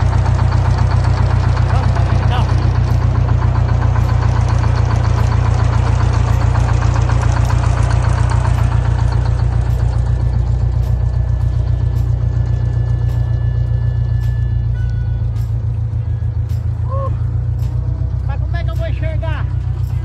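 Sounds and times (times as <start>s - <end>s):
diesel bus engine idling: 0.0s - 20.0s.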